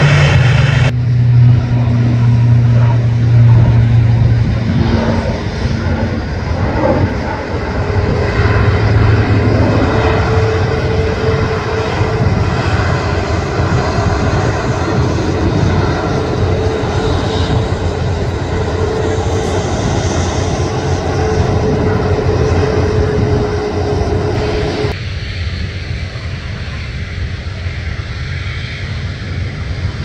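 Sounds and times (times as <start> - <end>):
propeller hum: 0.0 - 30.0
turboprop engines drone: 0.0 - 30.0.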